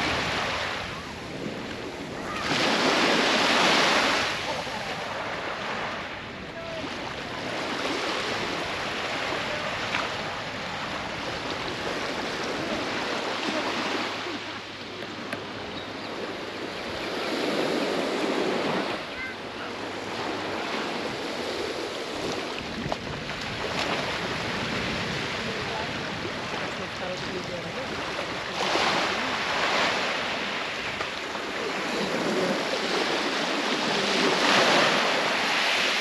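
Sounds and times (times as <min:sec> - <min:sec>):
small waves breaking on shore: 0:00.0 - 0:36.0.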